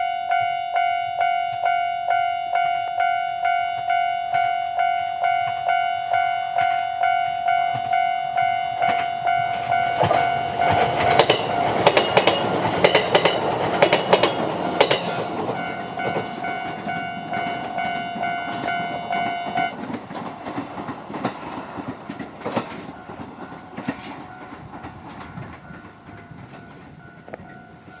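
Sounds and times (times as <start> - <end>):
level-crossing alarm bell dinging: 0.0 - 19.8, 22.6 - 28.0
train wheels clicking over rail joints: 2.6 - 28.0.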